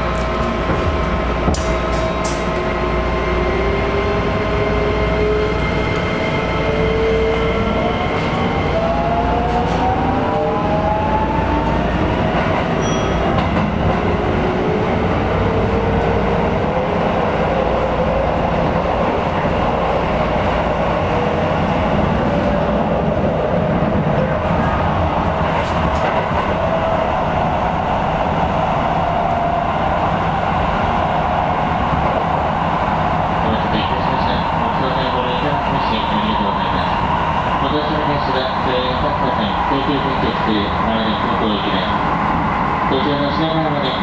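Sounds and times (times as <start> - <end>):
train rumbling on rails: 0.0 - 44.0.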